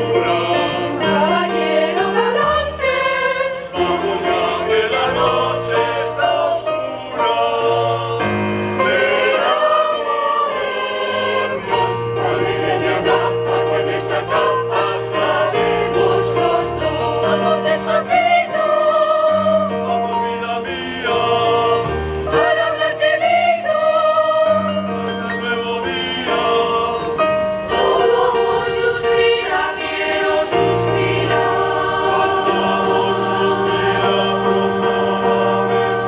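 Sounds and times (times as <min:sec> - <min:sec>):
choir singing in parts: 0:00.0 - 0:36.0.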